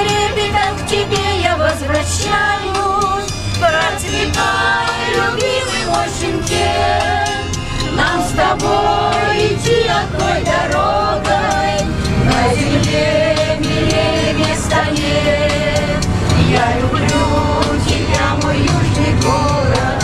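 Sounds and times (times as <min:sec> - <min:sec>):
low hum of minibus: 0:00.0 - 0:20.0
women singing in chorus: 0:00.0 - 0:20.0.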